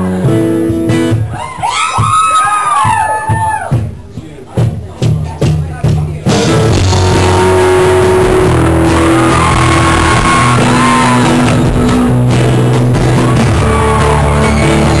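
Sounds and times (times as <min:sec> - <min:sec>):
loud live rock band: 0:00.0 - 0:04.0, 0:04.6 - 0:15.0.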